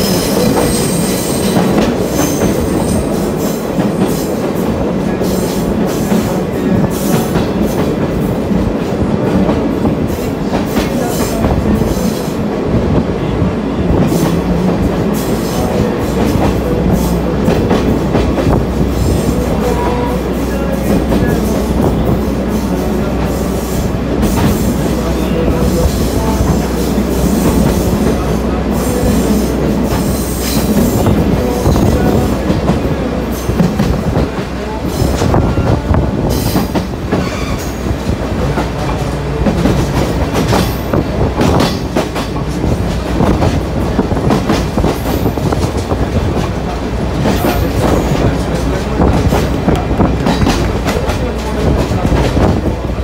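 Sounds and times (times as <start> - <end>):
train wheels clicking over rail joints: 0.0 - 12.9, 13.9 - 52.9.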